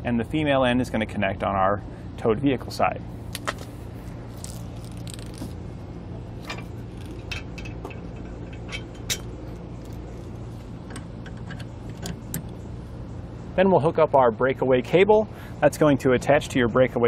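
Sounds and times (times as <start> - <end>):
low hum: 0.0 - 16.7.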